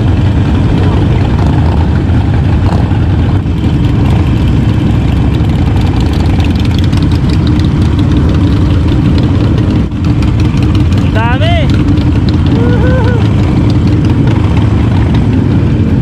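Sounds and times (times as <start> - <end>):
motorcycle engines idling: 0.0 - 16.0.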